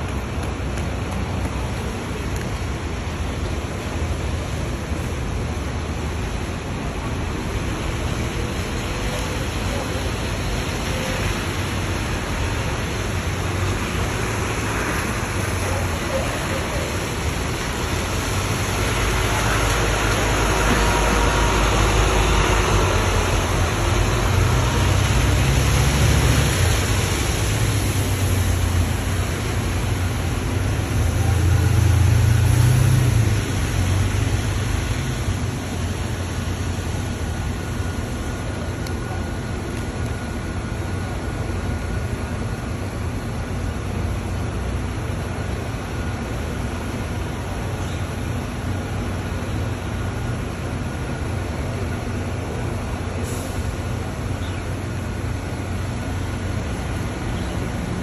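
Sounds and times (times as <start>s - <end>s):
bus diesel engine passing: 6.2s - 58.0s.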